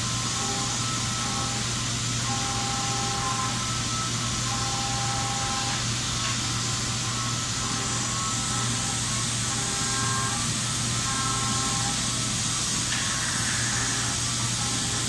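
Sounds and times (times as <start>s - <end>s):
machine hum with hiss: 0.0s - 15.0s.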